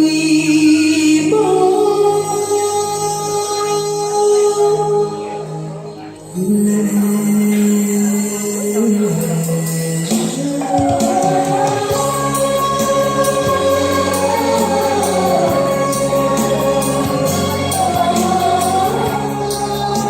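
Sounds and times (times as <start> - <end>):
song with sung melody and beat: 0.0 - 20.0.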